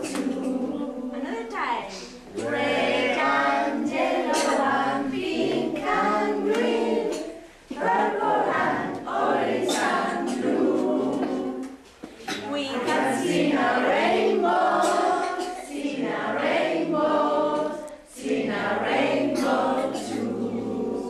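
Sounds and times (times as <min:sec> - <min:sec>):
group of voices singing: 0:00.0 - 0:21.0.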